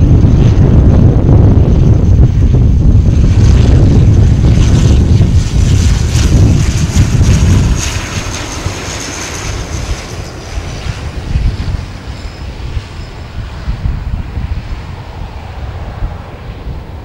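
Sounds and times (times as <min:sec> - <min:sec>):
turboprop aircraft landing: 0:00.0 - 0:17.0
wind buffeting microphone: 0:00.0 - 0:17.0.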